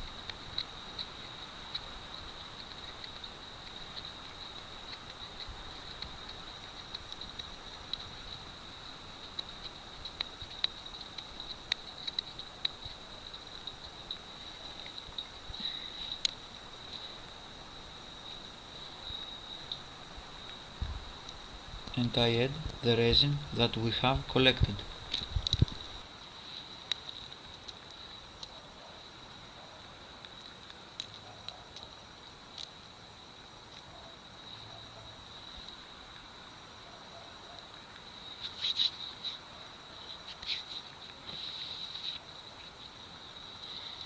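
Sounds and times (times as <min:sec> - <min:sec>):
faint ticks from handling wood: 0:00.0 - 0:17.4, 0:18.2 - 0:29.0, 0:33.6 - 0:44.0
insect high-pitched trill: 0:00.0 - 0:44.0
steady high-pitched hum: 0:00.0 - 0:44.0.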